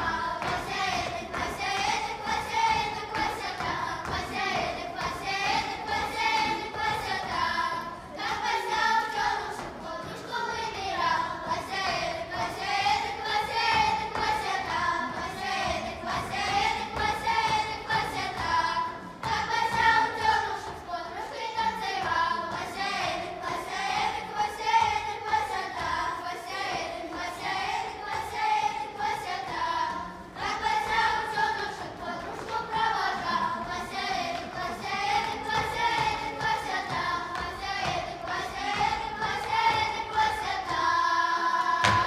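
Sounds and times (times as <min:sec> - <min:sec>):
children singing folk song: 0:00.0 - 0:42.0.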